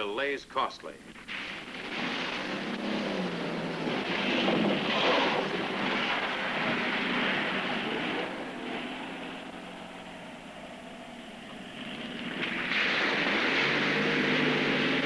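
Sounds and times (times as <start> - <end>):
van engines humming: 1.0 - 15.0
tyres rushing over wet ground: 1.2 - 15.0.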